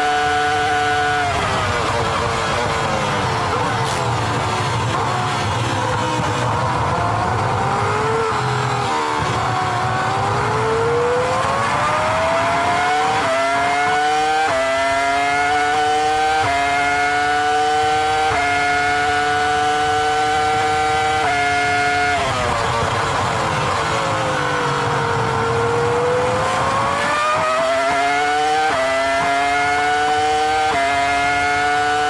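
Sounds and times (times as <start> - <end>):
racing car engine accelerating: 0.0 - 32.0.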